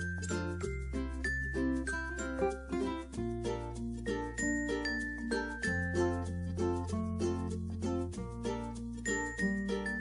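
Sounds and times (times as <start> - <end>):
quick melody of short notes: 0.0 - 10.0.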